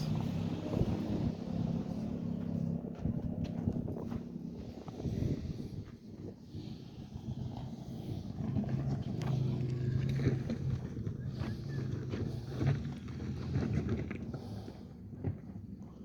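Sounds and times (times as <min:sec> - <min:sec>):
large engine humming: 0:00.0 - 0:16.0.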